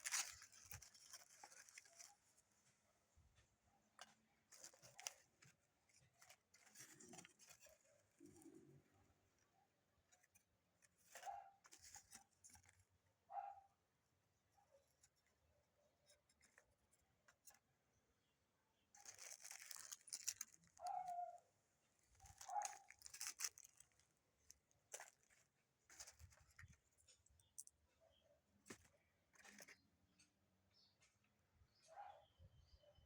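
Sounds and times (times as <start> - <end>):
rustling and scraping handling noises: 0.0 - 18.2, 18.8 - 31.2.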